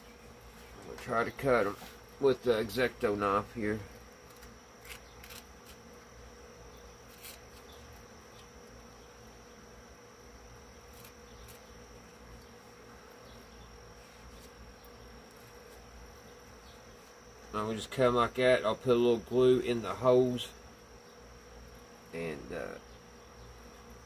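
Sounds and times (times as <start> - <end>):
faint buzzing hum: 0.0 - 24.0.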